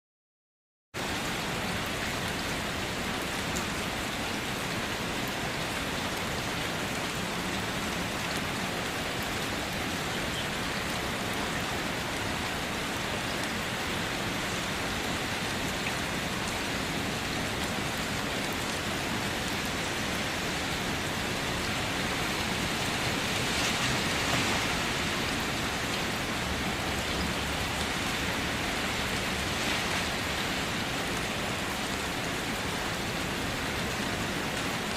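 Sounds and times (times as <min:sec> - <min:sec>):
heavy rainfall: 0:01.0 - 0:34.9.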